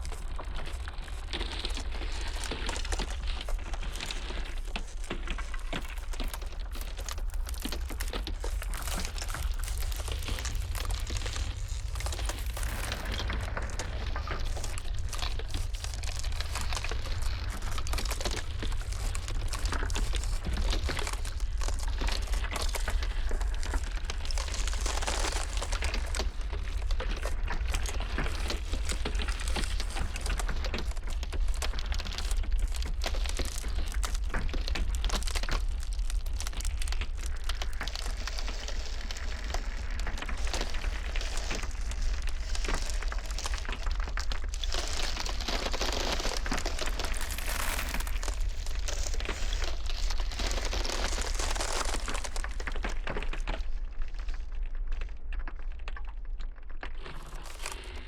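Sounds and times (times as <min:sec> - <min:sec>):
ice cracking and crackling: 0:00.0 - 0:58.0
steady low rumble: 0:01.8 - 0:54.8.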